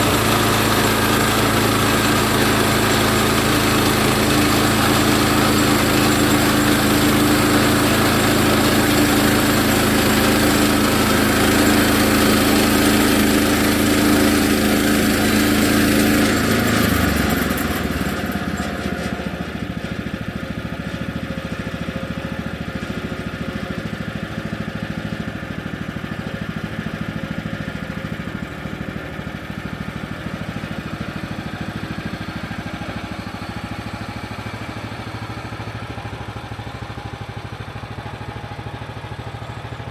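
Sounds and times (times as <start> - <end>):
gasoline engine running: 0.0 - 39.9.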